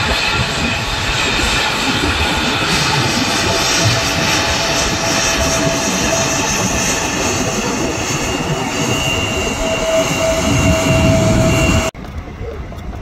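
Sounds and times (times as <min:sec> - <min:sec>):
jet engine roar and whine: 0:00.0 - 0:13.0.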